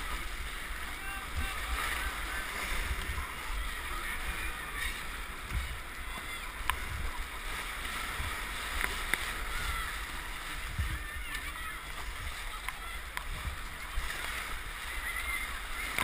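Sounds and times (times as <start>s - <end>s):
low rumble of water buffeting: 0.0s - 16.0s
paddle splashing water: 0.0s - 16.0s
whitewater rushing: 0.0s - 16.0s.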